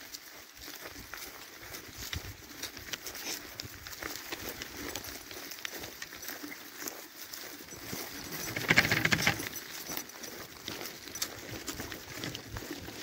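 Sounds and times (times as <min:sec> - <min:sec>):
footsteps on dry grass: 0:00.0 - 0:13.0.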